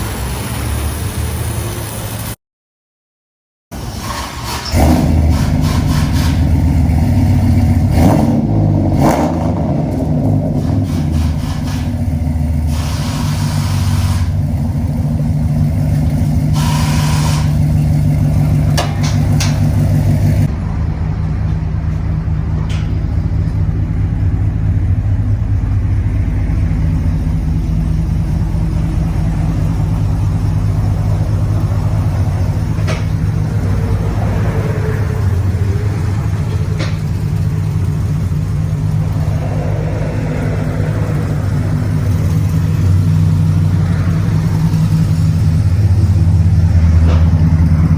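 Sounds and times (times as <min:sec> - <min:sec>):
car engine revving and idling: 0:03.7 - 0:47.9.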